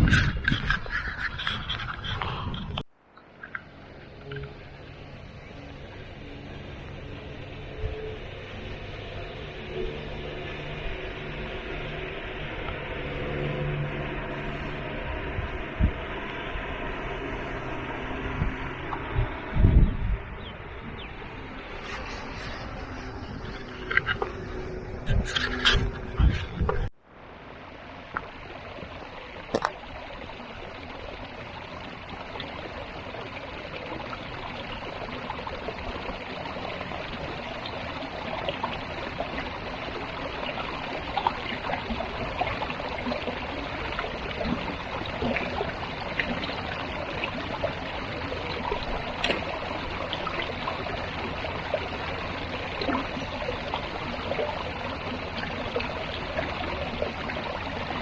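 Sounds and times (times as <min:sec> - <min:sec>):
stream trickling: 0:00.0 - 0:58.0.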